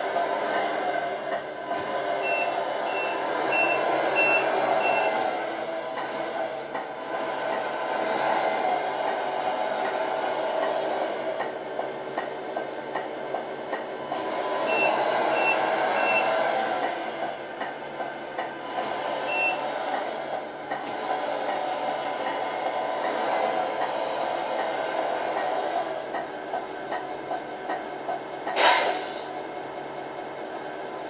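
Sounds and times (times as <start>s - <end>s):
simulated diesel engine through speaker: 0.0s - 31.0s.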